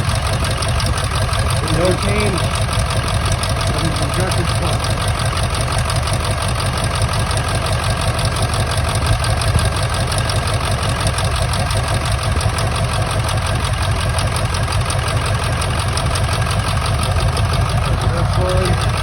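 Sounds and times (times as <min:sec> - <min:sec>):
diesel engine idling with clatter: 0:00.0 - 0:19.0.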